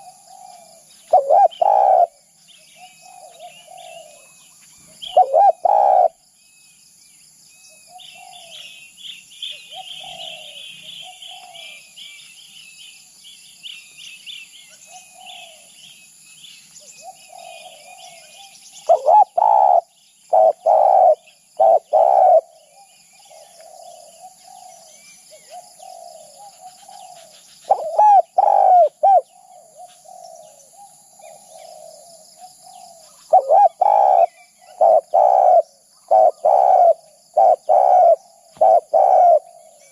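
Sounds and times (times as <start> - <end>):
dove cooing: 0.0 - 6.2, 7.8 - 8.8, 9.5 - 11.9, 14.8 - 15.8, 16.8 - 39.9
small birds chirping: 0.0 - 39.9.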